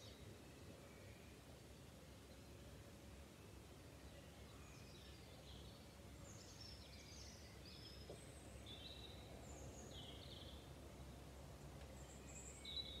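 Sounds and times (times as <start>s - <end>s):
songbirds chirping and warbling: 0.0s - 13.0s.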